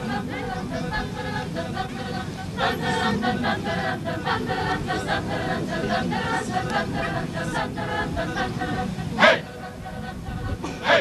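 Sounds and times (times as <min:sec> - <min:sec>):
mixed choir singing a cappella: 0:00.0 - 0:11.0.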